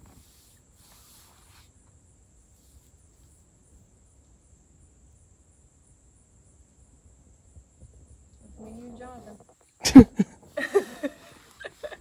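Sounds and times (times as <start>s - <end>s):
high steady insect trill: 0.0s - 12.0s.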